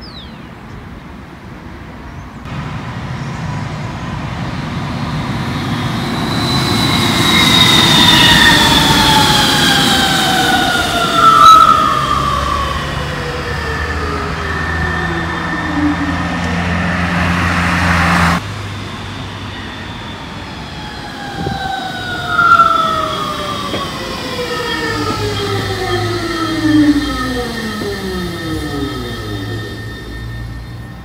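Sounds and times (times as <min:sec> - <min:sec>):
electric train drive whining: 0:02.5 - 0:31.0.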